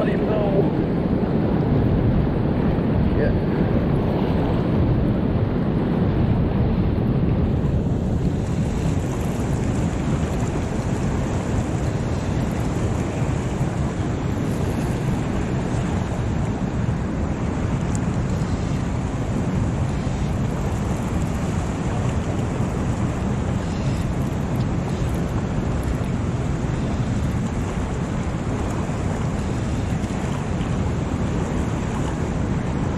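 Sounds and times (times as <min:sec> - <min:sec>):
whitewater rushing: 0:00.0 - 0:32.9.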